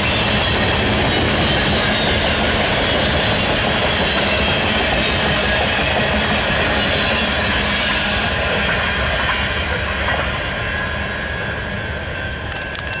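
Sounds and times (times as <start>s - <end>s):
freight train wheels rumbling: 0.0s - 13.0s
rail clicks: 0.0s - 13.0s.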